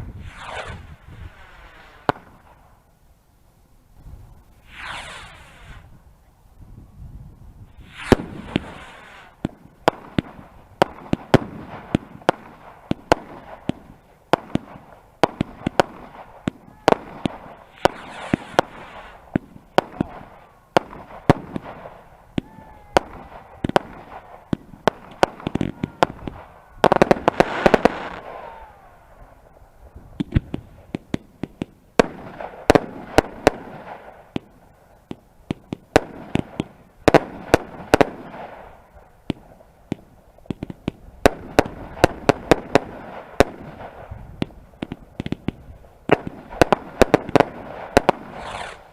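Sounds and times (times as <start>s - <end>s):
fireworks bangs and cracks: 0.0s - 2.6s, 4.6s - 5.8s, 7.7s - 48.9s
fireworks hissing bursts: 0.0s - 2.7s, 4.0s - 6.0s, 7.7s - 48.9s.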